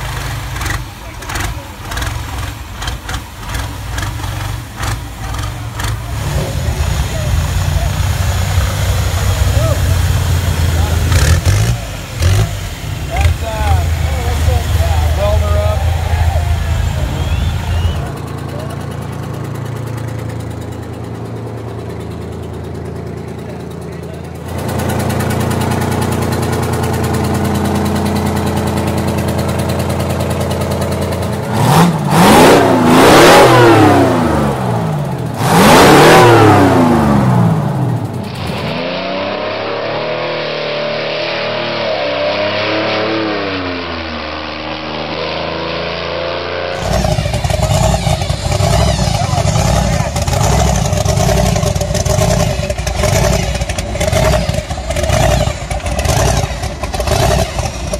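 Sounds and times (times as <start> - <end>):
big engine choppy idle: 0.0 - 32.2, 33.5 - 35.5, 36.2 - 38.7, 46.8 - 57.9
diesel engine idling and revving: 0.0 - 57.9.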